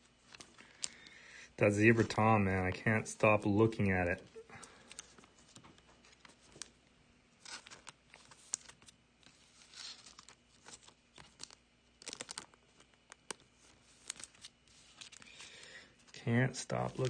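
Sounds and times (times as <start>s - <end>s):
plastic sleeves crinkling: 0.0s - 17.0s.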